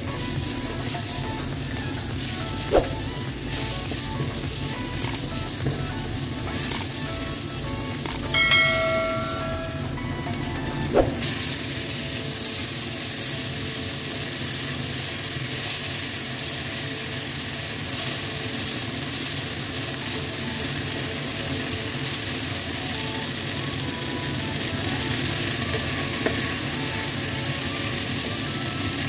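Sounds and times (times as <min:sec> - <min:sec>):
vegetables sizzling in wok: 0:00.0 - 0:29.0.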